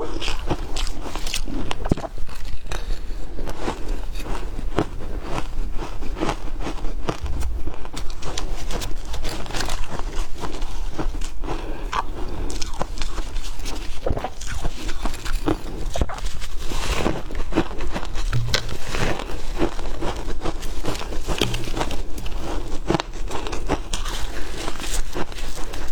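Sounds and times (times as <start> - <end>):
ice being chewed: 0.0 - 25.9.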